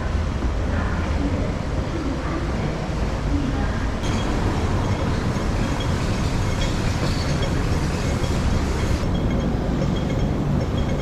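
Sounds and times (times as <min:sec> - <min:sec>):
city street rumble: 0:00.0 - 0:11.0.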